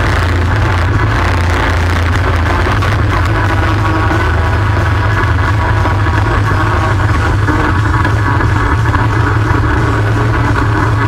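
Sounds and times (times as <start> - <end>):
atv engine droning: 0.0 - 11.0.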